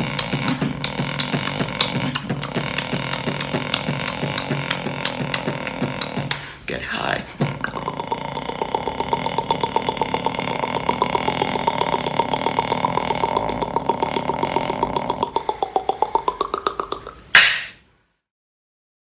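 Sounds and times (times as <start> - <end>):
beatboxer pulsing nasal hum: 0.0 - 17.8.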